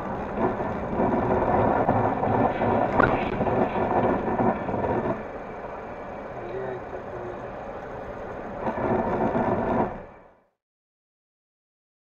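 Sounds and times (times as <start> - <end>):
car engine and tyre rumble: 0.0 - 10.6.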